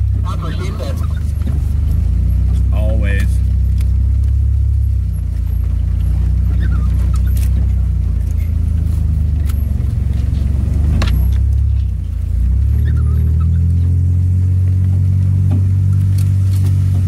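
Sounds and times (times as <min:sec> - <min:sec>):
sharp clicks and rattles: 0:00.0 - 0:14.0
car engine droning: 0:00.0 - 0:17.0.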